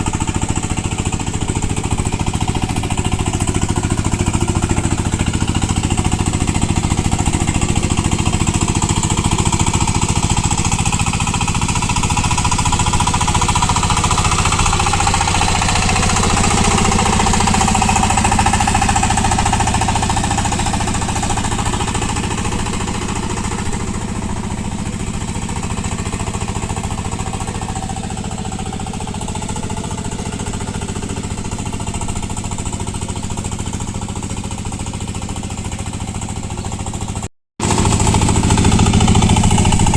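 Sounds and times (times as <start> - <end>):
diesel power tiller engine running: 0.0 - 39.9.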